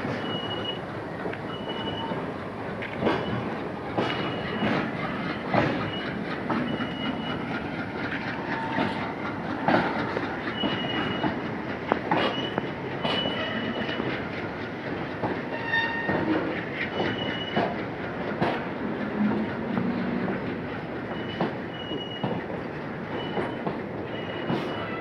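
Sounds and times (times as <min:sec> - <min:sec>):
freight train rumbling and rattling: 0:00.0 - 0:25.0.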